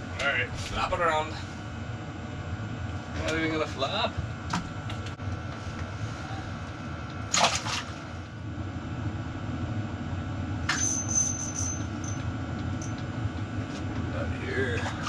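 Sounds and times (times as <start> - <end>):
diesel heater humming: 0.0 - 15.0.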